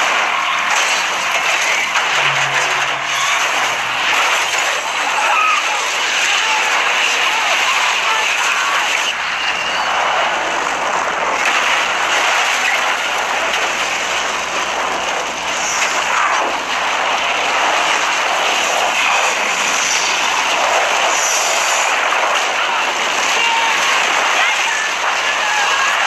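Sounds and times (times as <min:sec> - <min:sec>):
fire tornado roaring: 0:00.0 - 0:26.0.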